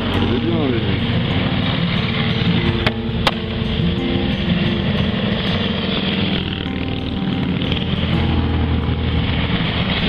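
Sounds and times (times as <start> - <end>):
motorcycles riding past: 0.0 - 10.0.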